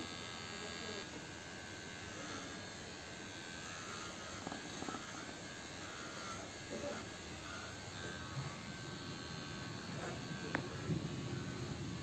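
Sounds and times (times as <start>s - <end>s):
electric hair clipper humming: 0.0s - 12.0s.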